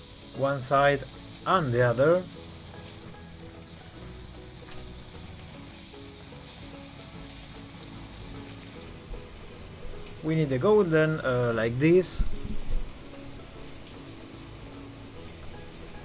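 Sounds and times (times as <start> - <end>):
beef sizzling in oil: 0.0 - 16.0
soft background music: 0.0 - 16.0.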